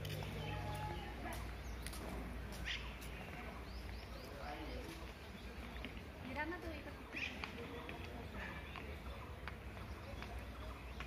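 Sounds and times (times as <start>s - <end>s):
birds chirping: 0.0s - 11.0s
faint distant voices: 0.0s - 11.0s.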